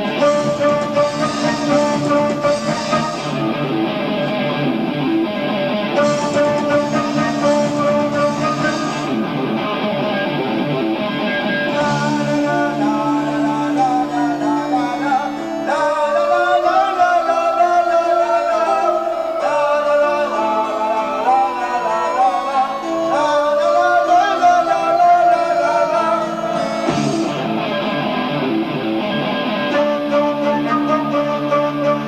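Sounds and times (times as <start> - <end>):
bending lead melody: 0.0 - 32.0
rock band playing: 0.0 - 32.0.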